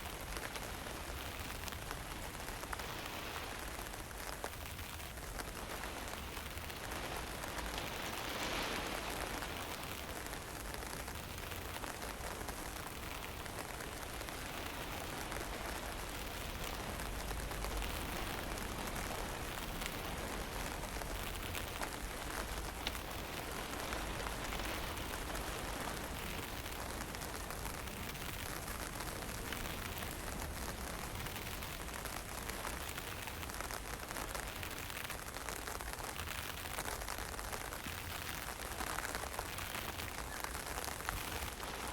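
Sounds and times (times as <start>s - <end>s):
wind rumble on microphone: 0.0s - 41.9s.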